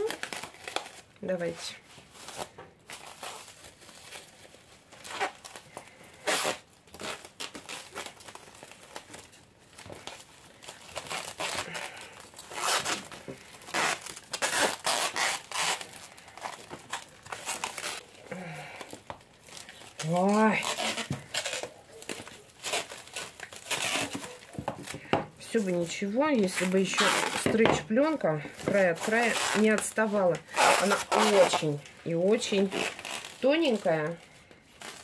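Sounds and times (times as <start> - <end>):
plastic film crinkling: 0.0 - 35.0
stretch film tearing: 0.0 - 35.0.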